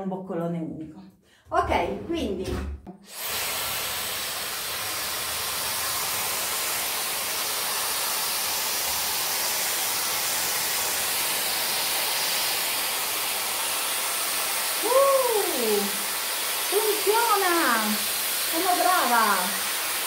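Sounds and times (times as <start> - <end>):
hair styler blowing air: 3.0 - 20.0.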